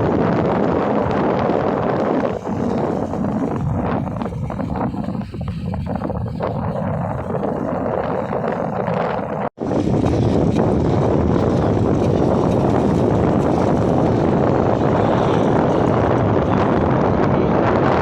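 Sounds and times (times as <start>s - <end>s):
wind rushing on microphone: 0.0s - 18.0s.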